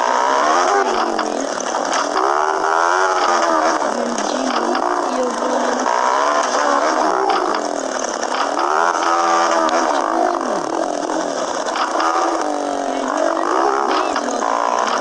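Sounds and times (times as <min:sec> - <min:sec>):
motorcycle engine revving: 0:00.0 - 0:15.0
wind and road noise: 0:00.0 - 0:15.0.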